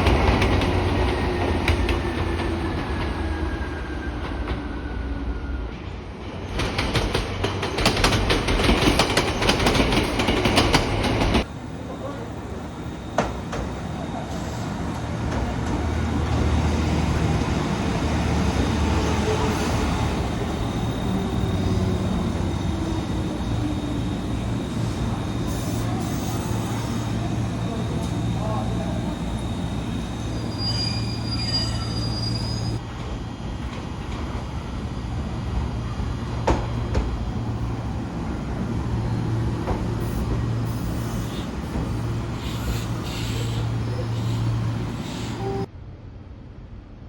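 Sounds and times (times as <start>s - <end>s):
electric train rumbling: 0.0s - 47.0s.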